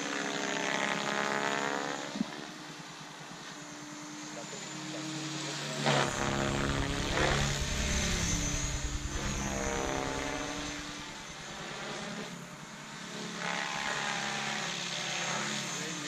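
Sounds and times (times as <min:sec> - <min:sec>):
model helicopter rotor whining: 0:00.0 - 0:16.0.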